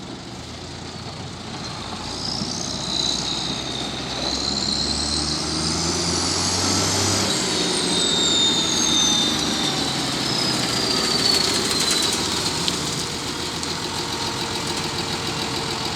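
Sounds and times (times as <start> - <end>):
tractor engine whining: 0.0 - 15.9.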